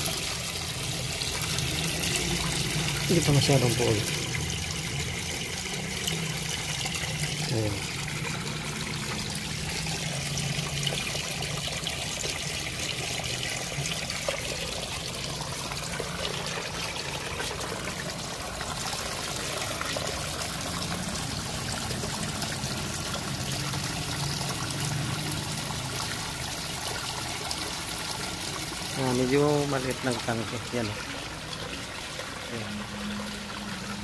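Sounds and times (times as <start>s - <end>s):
water splashing onto concrete: 0.0s - 34.0s.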